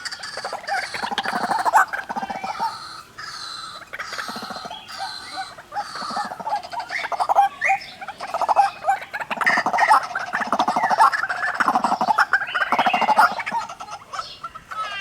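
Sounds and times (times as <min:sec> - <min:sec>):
waterhens calling: 0:00.0 - 0:15.0.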